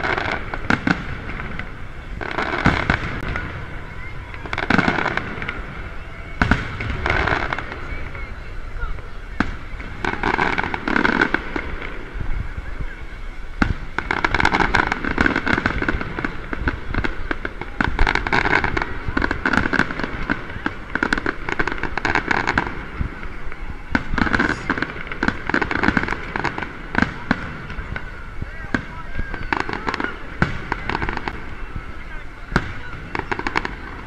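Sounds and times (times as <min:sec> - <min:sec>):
fireworks cracking and popping: 0:00.0 - 0:34.0.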